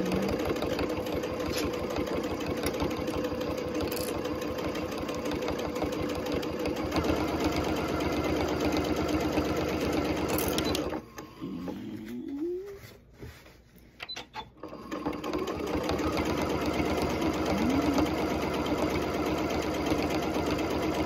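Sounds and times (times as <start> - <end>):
sewing machine stitching: 0.0 - 11.4, 14.0 - 21.0.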